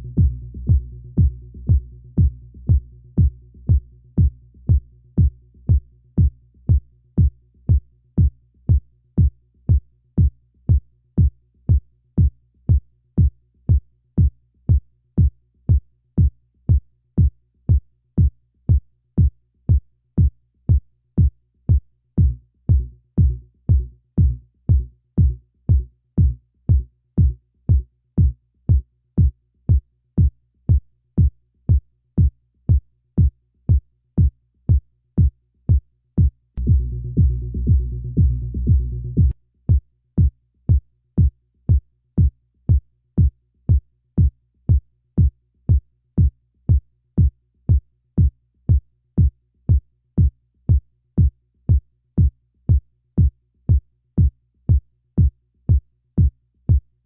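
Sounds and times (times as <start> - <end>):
electronic kick drum thumps: 0.0 - 56.9.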